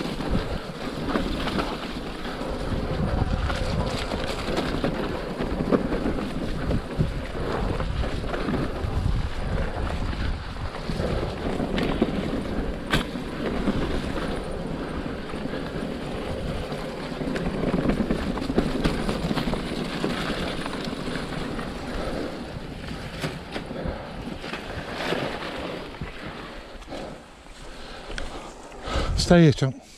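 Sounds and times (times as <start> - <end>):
bike rattling over rough ground: 0.0 - 28.8
wind buffeting microphone: 0.0 - 29.5.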